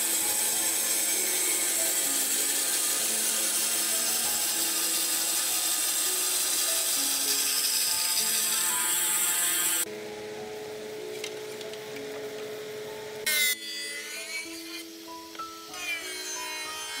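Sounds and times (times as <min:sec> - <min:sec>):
bandsaw cutting wood: 0:00.0 - 0:09.9, 0:13.3 - 0:17.0
background music with held notes: 0:00.0 - 0:17.0.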